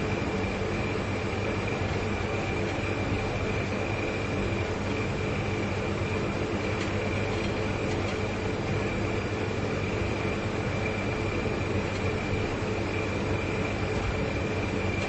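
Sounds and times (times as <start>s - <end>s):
refrigerator compressors humming: 0.0s - 15.0s.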